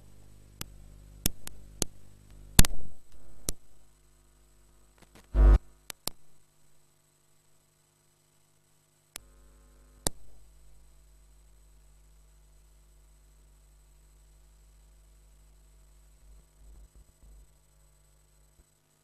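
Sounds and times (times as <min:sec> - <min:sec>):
electrical hum from sound system: 0:00.0 - 0:19.0.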